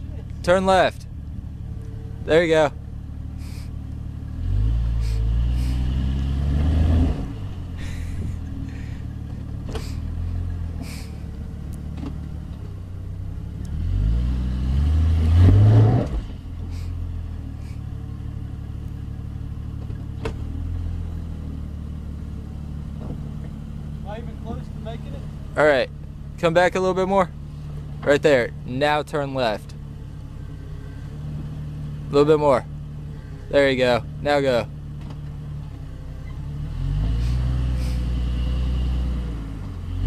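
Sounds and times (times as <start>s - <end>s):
engine revving: 0.0s - 40.0s.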